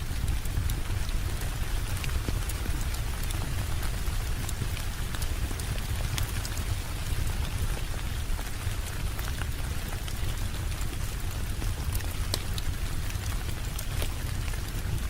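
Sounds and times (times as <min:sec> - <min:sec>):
steady rain hiss: 0:00.0 - 0:15.0
wood fire crackling: 0:00.0 - 0:15.0.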